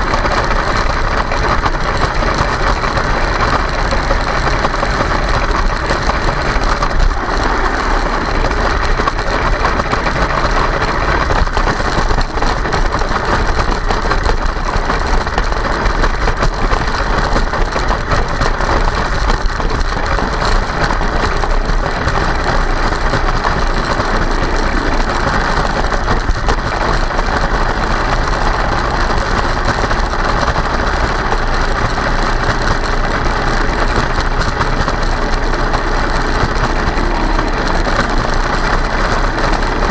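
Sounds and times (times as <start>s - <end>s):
continuous rattling: 0.0s - 39.9s
electric drivetrain and tracks whining: 0.0s - 39.9s.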